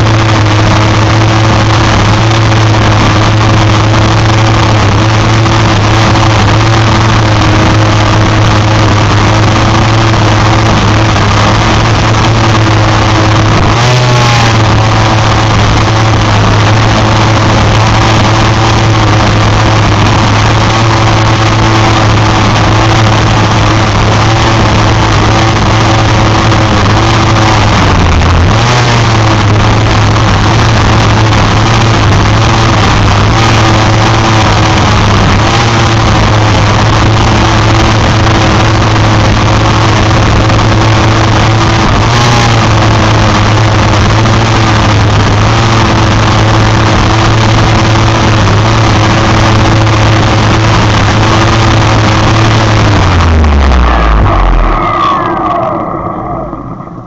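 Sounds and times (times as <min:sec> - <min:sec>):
trimmer line cutting grass: 0:00.0 - 0:54.8
string trimmer running: 0:00.0 - 0:55.5.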